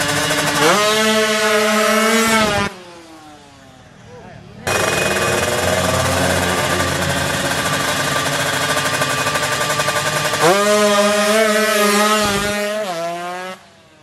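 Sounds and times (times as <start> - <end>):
motorcycle accelerating away: 0.0 - 3.5, 4.7 - 14.0
motorcycle engines revving: 0.0 - 14.0.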